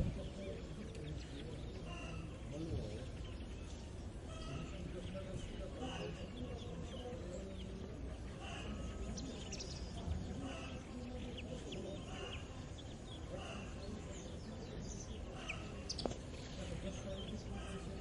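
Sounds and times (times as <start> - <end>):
small birds chirping: 0.0 - 18.0
faint animal sounds: 0.3 - 18.0.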